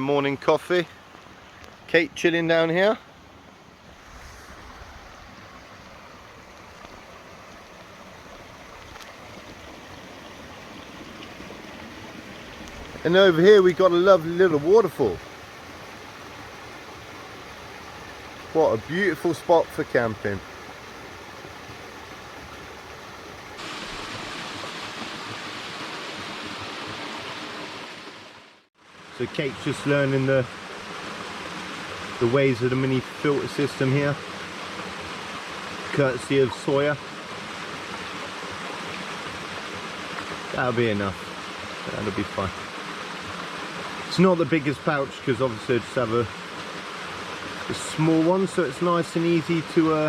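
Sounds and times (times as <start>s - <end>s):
waterfall and stream rushing: 0.0s - 50.0s.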